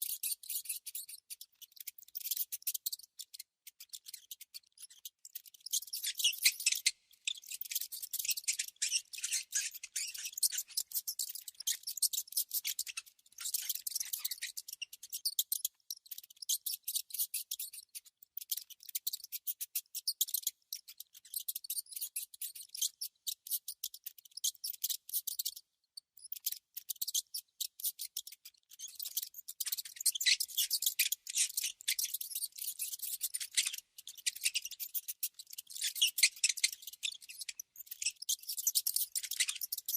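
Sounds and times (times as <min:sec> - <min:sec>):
mouse clicking and scratching: 0:00.0 - 0:39.9.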